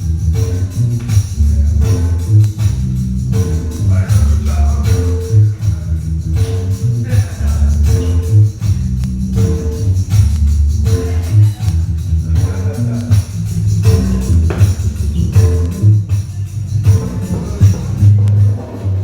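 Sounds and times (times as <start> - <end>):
dance music with heavy bass: 0.0 - 19.0.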